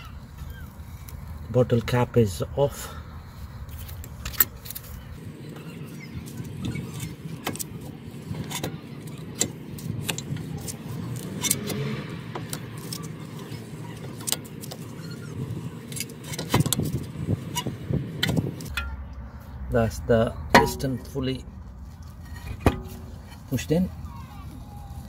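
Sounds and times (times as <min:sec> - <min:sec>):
low steady rumble: 0:00.0 - 0:25.0.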